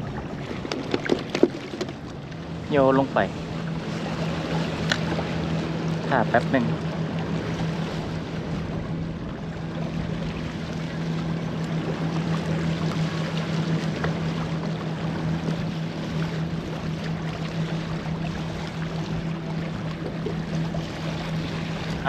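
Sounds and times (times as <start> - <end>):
wind: 0.0 - 22.0
steady low hum: 1.7 - 22.0.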